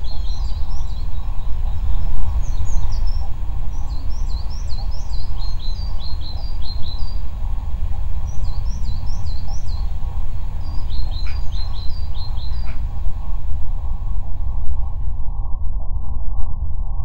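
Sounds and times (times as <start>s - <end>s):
bird chirping: 0.0s - 15.0s
loud low rumble: 0.0s - 17.0s.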